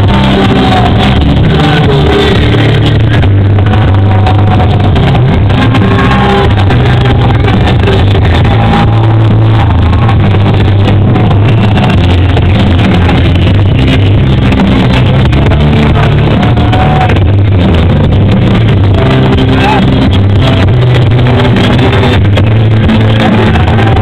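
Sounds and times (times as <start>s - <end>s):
distorted live band music: 0.0s - 24.0s
person singing: 0.0s - 24.0s.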